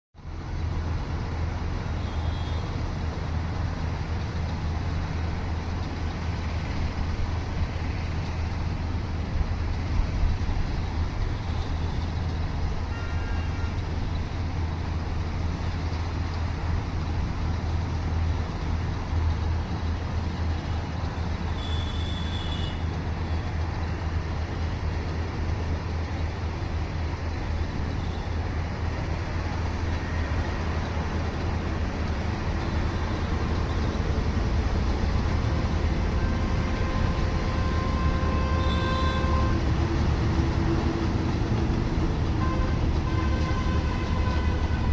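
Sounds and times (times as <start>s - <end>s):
combine harvester engine drone: 0.2s - 44.9s.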